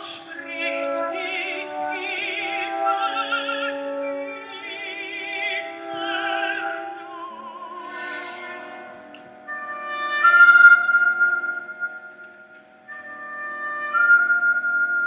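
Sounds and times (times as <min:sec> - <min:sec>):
operatic singing with vibrato: 0:00.0 - 0:12.2.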